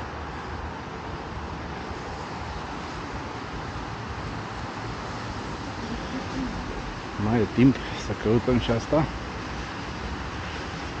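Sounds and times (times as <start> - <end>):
low traffic rumble: 0.0 - 11.0
road traffic hiss: 0.0 - 11.0.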